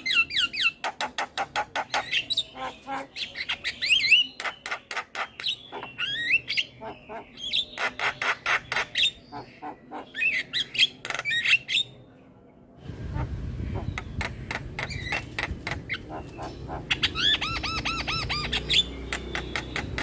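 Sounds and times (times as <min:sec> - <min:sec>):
myna bird singing: 0:00.0 - 0:20.0.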